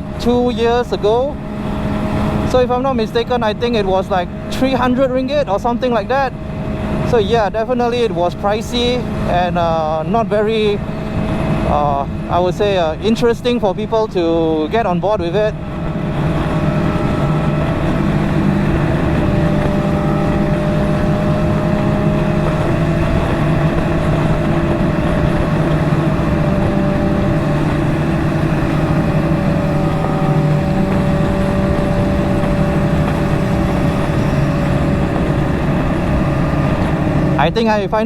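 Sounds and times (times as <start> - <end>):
motorcycle engine cruising: 0.0 - 38.0
wind rush: 0.0 - 38.0.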